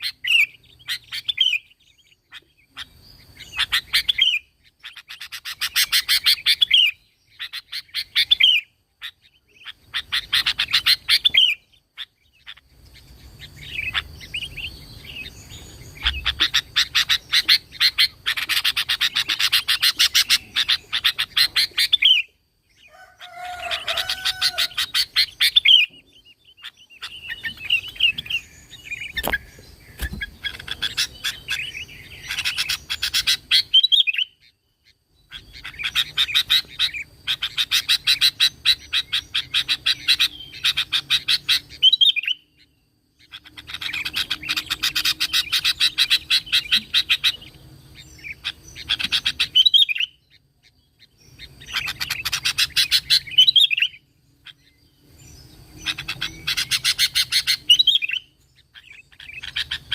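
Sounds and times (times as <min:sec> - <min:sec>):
bulbul chattering song: 0:00.0 - 0:59.9.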